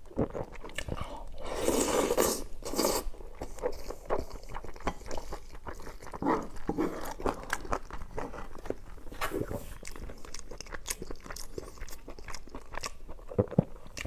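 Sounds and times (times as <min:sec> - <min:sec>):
chewing with mouth clicks: 0:00.0 - 0:14.0.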